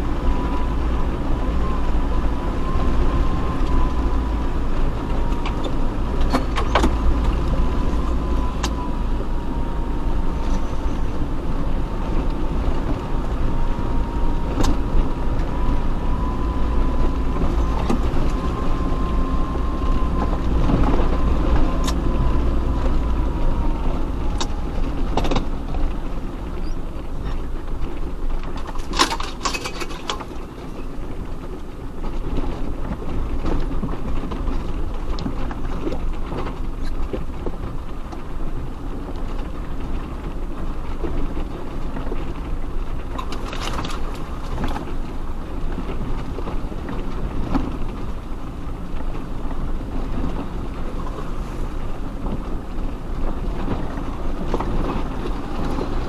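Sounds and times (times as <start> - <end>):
off-road vehicle engine rumble: 0.0 - 56.0.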